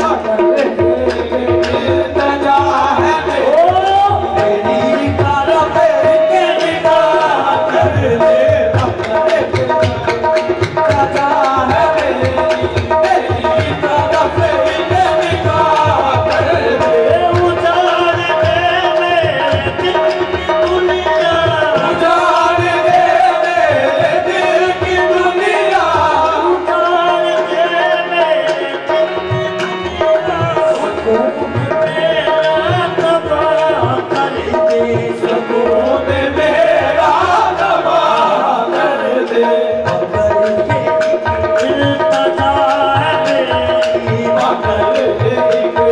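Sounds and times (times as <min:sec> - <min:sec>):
tabla playing fast beat: 0:00.0 - 0:45.9.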